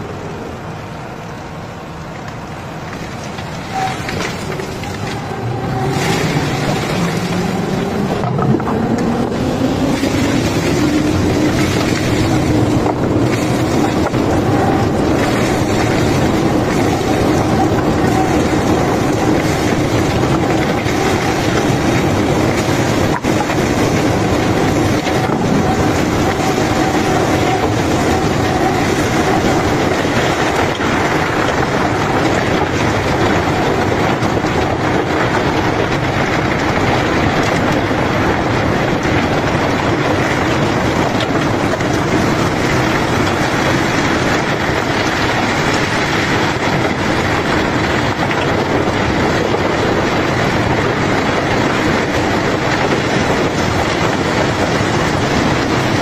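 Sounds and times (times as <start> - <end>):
heavy machinery rumbling: 0.0 - 56.0
gravel clattering: 2.2 - 56.0.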